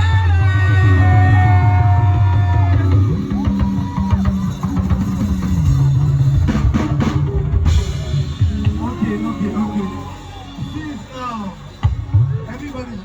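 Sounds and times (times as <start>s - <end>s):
drum kit strokes: 0.0s - 12.8s
live band music: 0.0s - 13.0s.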